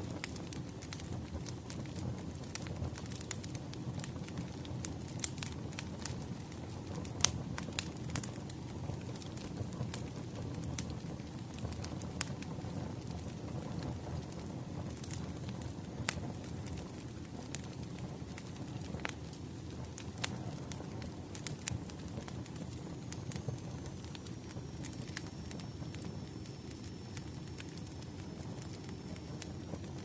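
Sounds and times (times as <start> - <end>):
fire popping and snapping: 0.0 - 30.0
wood fire crackling: 0.0 - 30.0.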